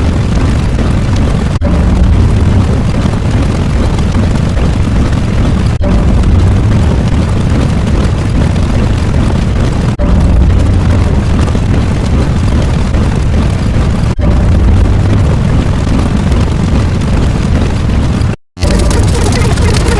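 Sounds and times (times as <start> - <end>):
loud rumbling explosion noise: 0.0 - 19.9.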